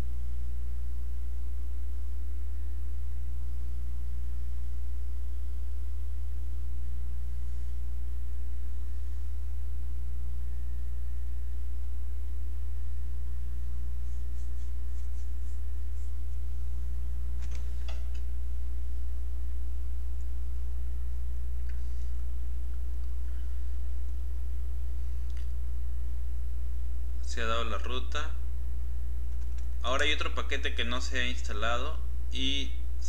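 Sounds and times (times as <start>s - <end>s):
mains hum: 0.0s - 33.0s.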